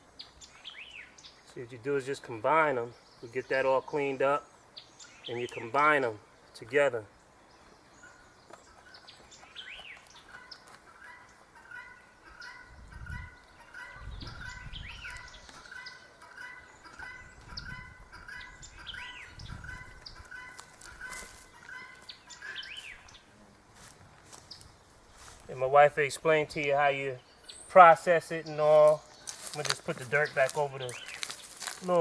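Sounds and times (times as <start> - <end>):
birds calling: 0.0 - 32.0
high arching bird chirp: 0.2 - 1.6, 2.6 - 32.0.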